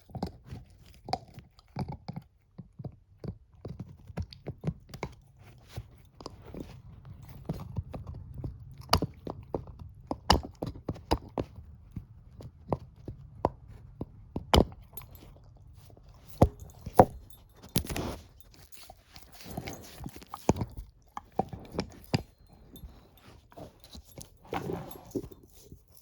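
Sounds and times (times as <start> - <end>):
dog chewing a bone: 0.0 - 26.0.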